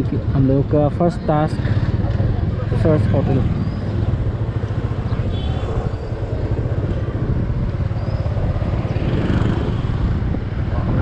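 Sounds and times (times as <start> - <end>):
motorcycle engine rumble: 0.0 - 11.0.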